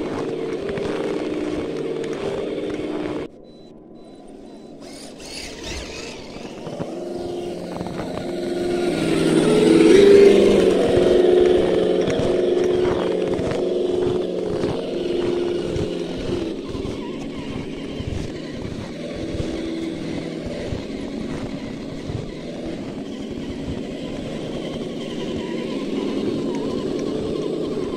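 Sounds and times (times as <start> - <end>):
toy truck electric motors whining: 0.0 - 27.9.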